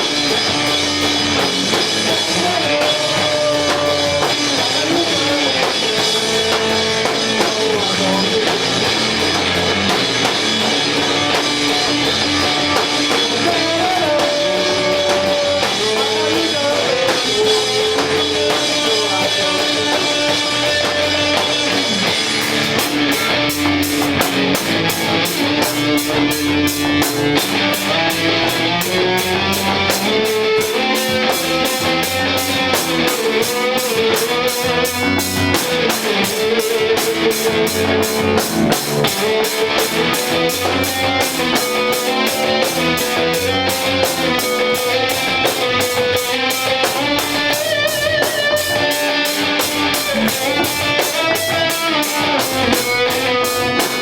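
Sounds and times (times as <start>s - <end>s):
drum kit beat on cymbals: 0.0s - 54.0s
electric guitar: 0.0s - 54.0s.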